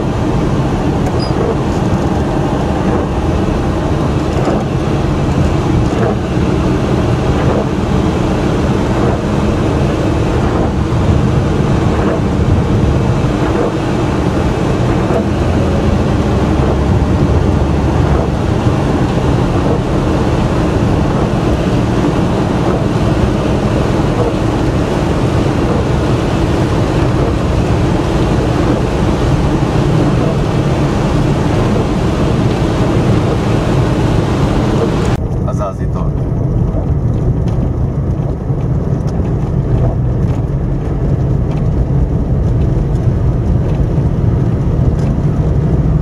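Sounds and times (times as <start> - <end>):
car engine and tyre noise: 0.0 - 46.0
low rumble: 0.0 - 46.0.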